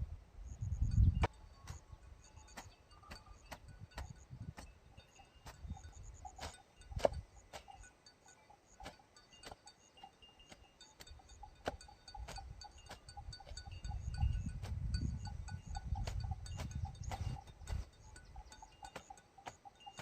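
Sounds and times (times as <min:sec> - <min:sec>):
faint high chirps: 0:00.4 - 0:20.0.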